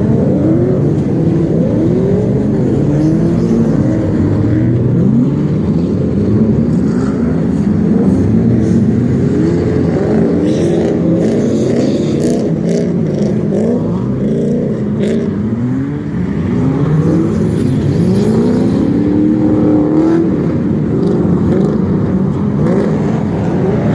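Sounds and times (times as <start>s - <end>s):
car engine revving hard: 0.0s - 23.9s.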